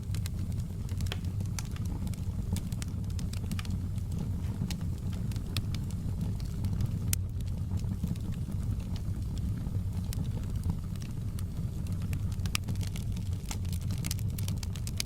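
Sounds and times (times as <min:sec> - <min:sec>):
fire pops and snaps: 0:00.0 - 0:15.0
low rumble of burning fire: 0:00.0 - 0:15.0.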